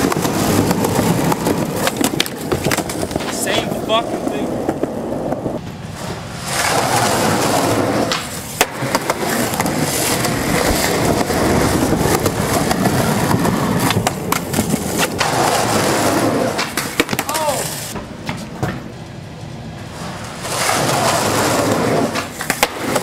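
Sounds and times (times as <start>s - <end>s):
skateboard clacks: 0.0s - 19.0s, 19.9s - 23.0s
skateboard wheels rolling on concrete: 0.0s - 23.0s.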